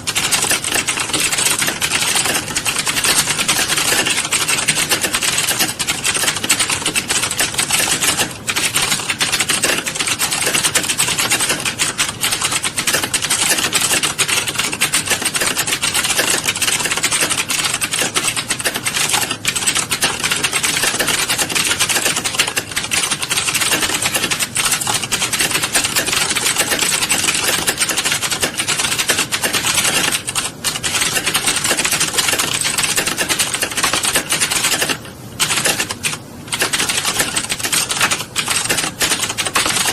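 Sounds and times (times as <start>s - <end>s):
fast typing on keys: 0.0s - 39.9s.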